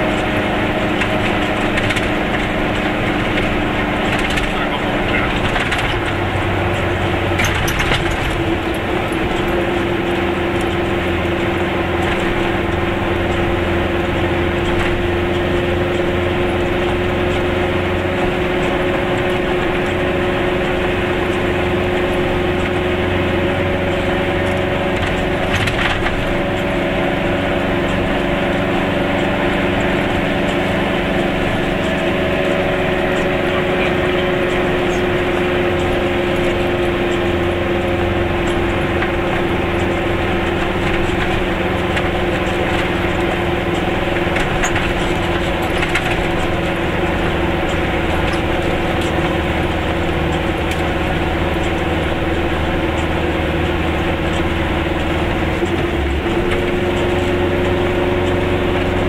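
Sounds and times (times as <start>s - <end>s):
road noise: 0.0s - 59.0s
small two-stroke engine running: 0.0s - 59.0s.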